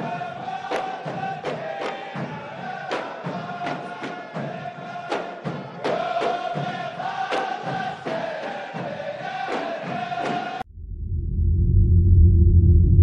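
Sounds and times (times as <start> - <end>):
drum beats: 0.0 - 10.6
men chanting in unison: 0.0 - 10.6.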